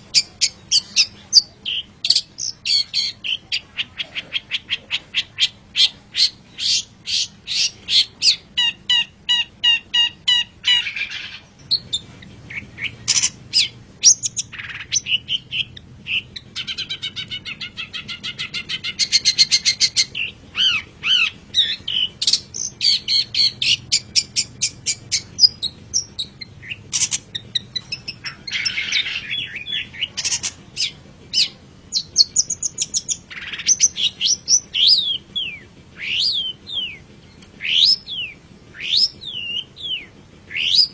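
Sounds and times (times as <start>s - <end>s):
shrike singing: 0.0s - 40.9s.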